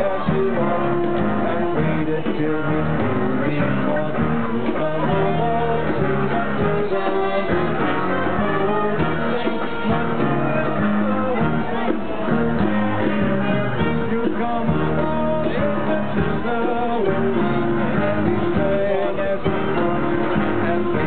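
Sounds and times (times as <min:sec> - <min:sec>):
live rock band over speakers: 0:00.0 - 0:21.0.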